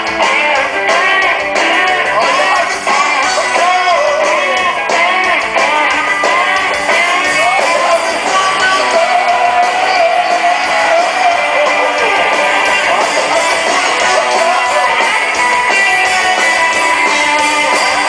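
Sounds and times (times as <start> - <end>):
fast electric guitars: 0.0 - 18.0
person singing: 0.0 - 18.0.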